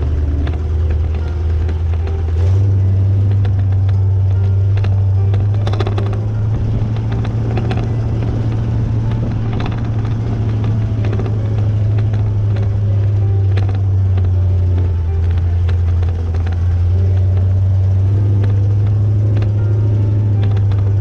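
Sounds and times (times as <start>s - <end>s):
clicks and knocks from road: 0.0s - 21.0s
low engine drone: 0.0s - 21.0s.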